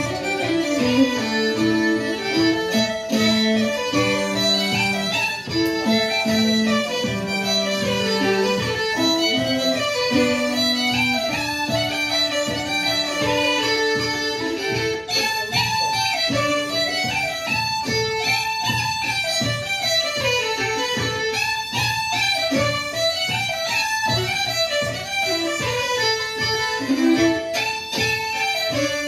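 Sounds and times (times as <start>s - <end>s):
uilleann pipes and fiddle playing: 0.0s - 29.0s.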